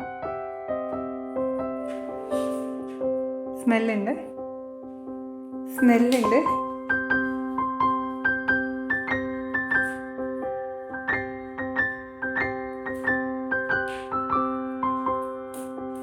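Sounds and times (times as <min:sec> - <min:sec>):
gentle electric piano tune: 0:00.0 - 0:16.0.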